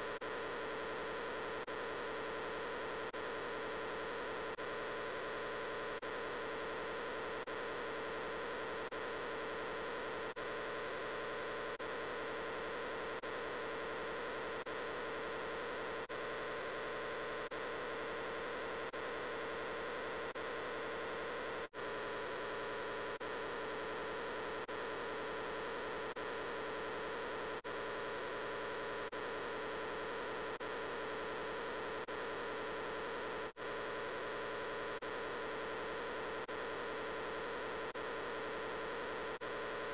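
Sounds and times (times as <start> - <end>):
layered voice static-like hum: 0.0 - 39.9.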